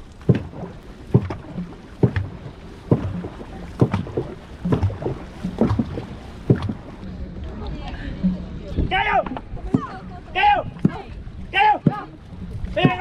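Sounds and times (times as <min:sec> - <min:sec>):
paddle strokes: 0:00.0 - 0:13.0
rushing water: 0:00.0 - 0:13.0
wind: 0:00.0 - 0:13.0.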